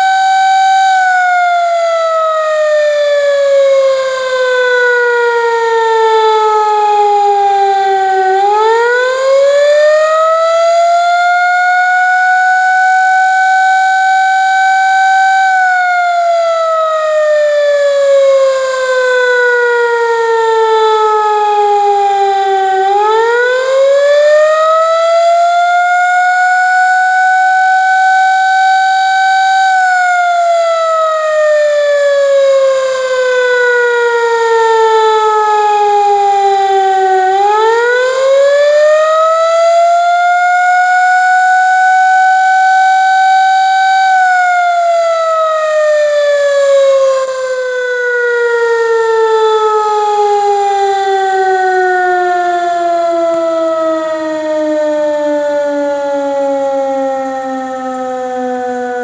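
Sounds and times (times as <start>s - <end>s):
air raid siren wailing: 0.0s - 59.0s.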